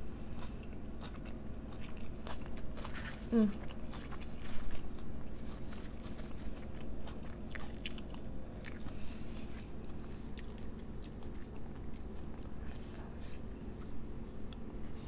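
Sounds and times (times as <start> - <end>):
chewing food: 0.2 - 15.0.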